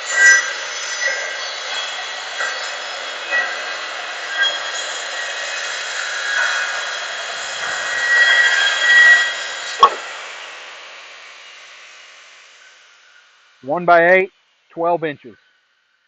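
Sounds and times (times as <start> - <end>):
circular saw cutting wood: 0.0 - 13.3.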